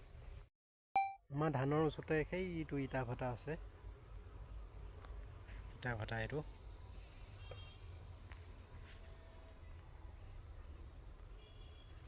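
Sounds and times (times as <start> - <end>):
crickets trilling: 1.2 - 12.0.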